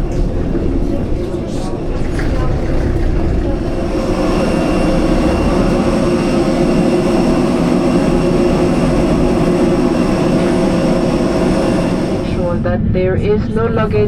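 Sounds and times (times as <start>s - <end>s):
air conditioning rush: 0.0s - 14.0s
steady whining tones: 0.0s - 14.0s.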